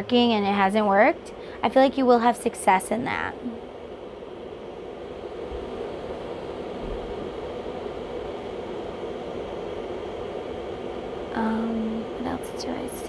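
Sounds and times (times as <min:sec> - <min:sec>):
low whooshing hum: 0:00.0 - 0:13.0.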